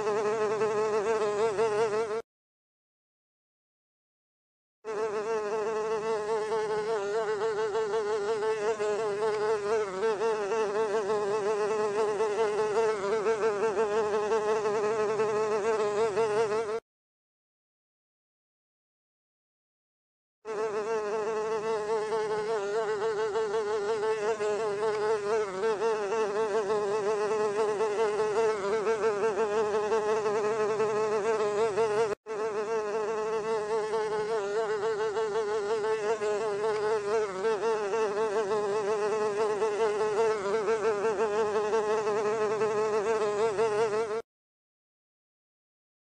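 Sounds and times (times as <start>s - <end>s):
housefly buzzing: 0.0s - 2.3s, 4.8s - 16.8s, 20.5s - 44.3s.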